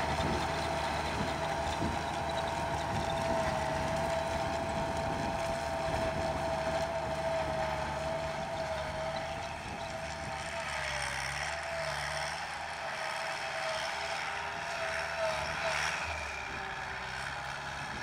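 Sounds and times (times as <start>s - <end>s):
rotary tiller churning soil: 0.0s - 18.0s
tractor diesel engine under load: 0.0s - 18.0s.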